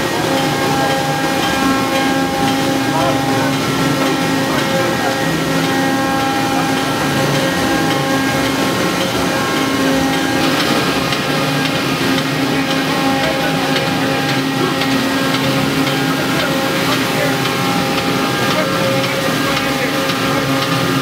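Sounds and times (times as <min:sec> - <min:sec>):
hum of held tones: 0:00.0 - 0:21.0
mill machinery rumbling: 0:00.0 - 0:21.0.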